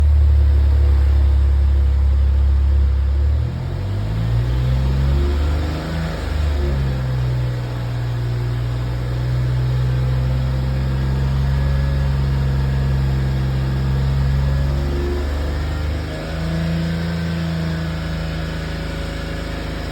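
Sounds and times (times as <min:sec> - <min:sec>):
car engine droning: 0:00.0 - 0:19.9.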